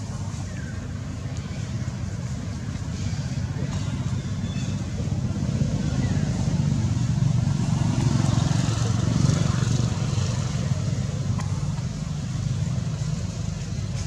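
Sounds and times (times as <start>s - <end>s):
engine running drone: 0.0s - 14.0s.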